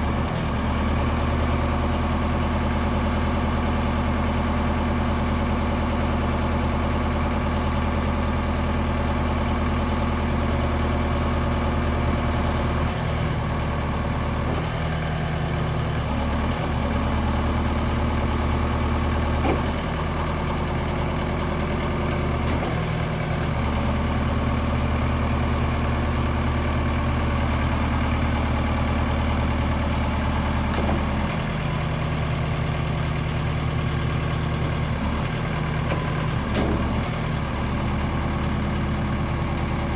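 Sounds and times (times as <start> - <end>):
forklift diesel engine running: 0.0 - 39.9.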